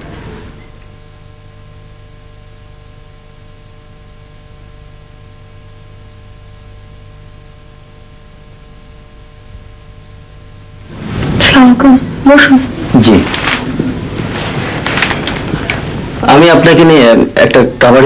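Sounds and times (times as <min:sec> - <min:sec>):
low mains hum: 0:00.0 - 0:18.0
steady hiss: 0:00.0 - 0:18.0.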